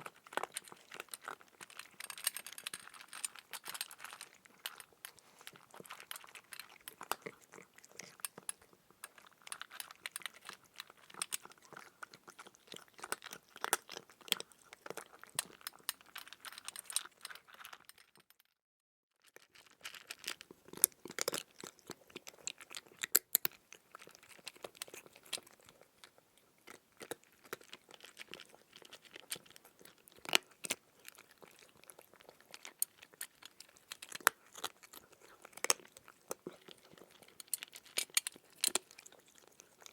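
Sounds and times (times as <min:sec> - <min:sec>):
cat crunching food: 0:00.0 - 0:18.3, 0:19.2 - 0:39.9.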